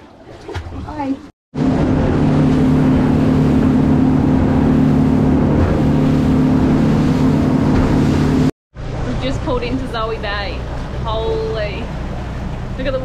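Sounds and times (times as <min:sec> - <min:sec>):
water rushing past hull: 0:00.0 - 0:13.0
motorboat engine drone: 0:01.5 - 0:13.0.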